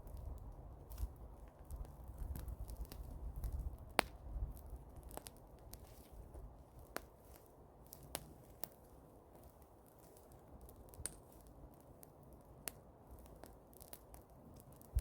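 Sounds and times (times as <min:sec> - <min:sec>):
bonfire crackling and popping: 0:00.0 - 0:15.0.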